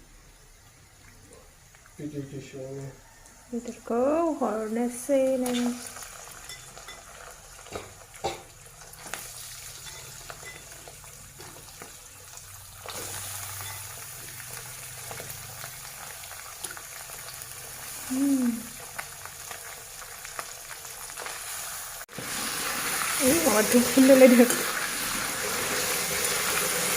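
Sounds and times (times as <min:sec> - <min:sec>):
food sizzling in oil: 0:00.0 - 0:26.9.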